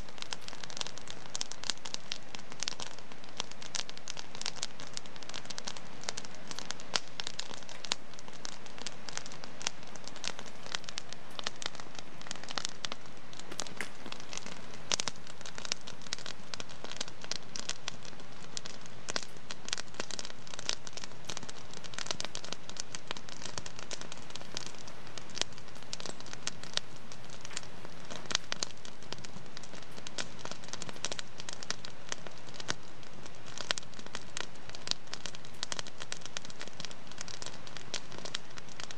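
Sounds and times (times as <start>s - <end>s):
fire hiss: 0.0s - 38.9s
wood fire crackling: 0.0s - 38.9s.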